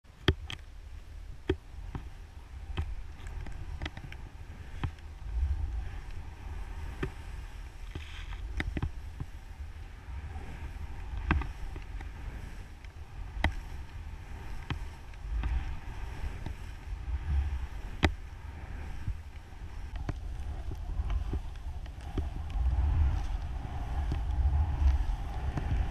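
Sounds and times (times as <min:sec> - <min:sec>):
wind buffeting microphone: 0:00.0 - 0:25.9
skis hissing through snow: 0:01.8 - 0:25.9.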